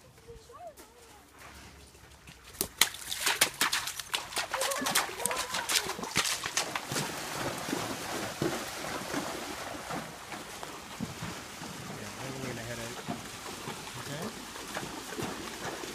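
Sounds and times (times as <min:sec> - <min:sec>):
hooves splashing through water: 0:00.0 - 0:15.9.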